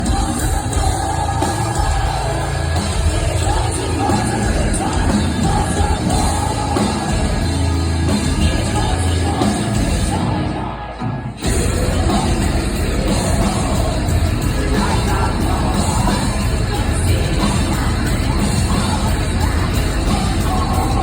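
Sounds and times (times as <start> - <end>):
live metal band playing: 0.0 - 21.0.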